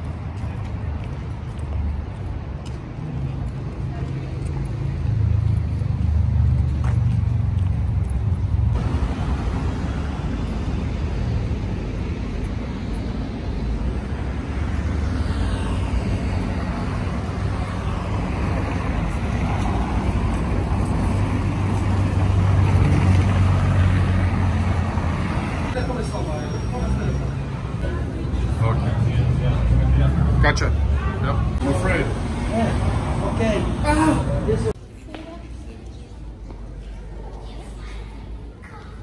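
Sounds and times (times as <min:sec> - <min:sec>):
cars driving on cobblestones: 0:00.0 - 0:39.0
low traffic rumble: 0:00.0 - 0:39.0.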